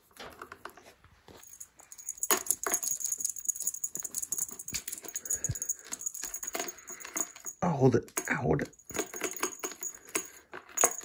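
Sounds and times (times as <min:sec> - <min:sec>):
cat toy rattling and jingling: 0:01.4 - 0:11.0.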